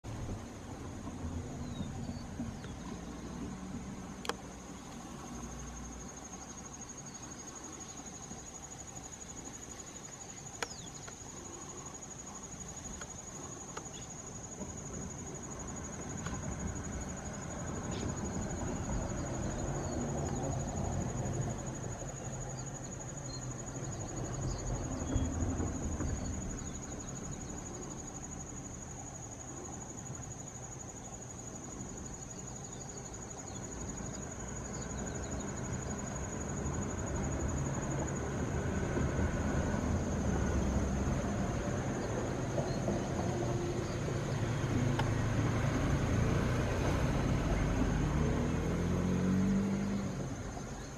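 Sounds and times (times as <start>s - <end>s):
insects droning: 0.1s - 50.9s.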